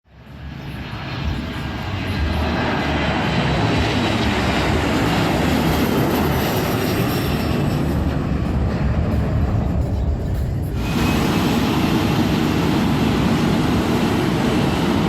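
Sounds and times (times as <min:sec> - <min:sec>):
airplane engines roaring: 0:00.1 - 0:15.0.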